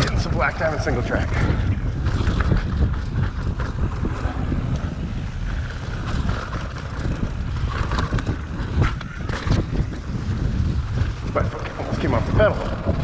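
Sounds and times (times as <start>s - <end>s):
bike clicks and rattles: 0.0s - 13.0s
tyres rumbling over trail: 0.0s - 13.0s
wind buffeting microphone: 0.0s - 13.0s.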